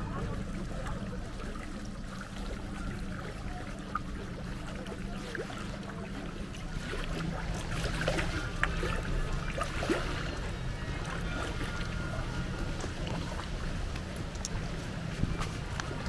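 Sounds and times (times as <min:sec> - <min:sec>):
low steady hum: 0:00.0 - 0:16.0
water swishing around kayak: 0:00.0 - 0:16.0.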